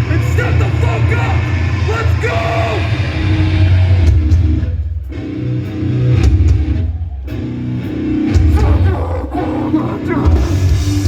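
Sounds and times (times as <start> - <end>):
live hardcore band playing: 0.0 - 11.0.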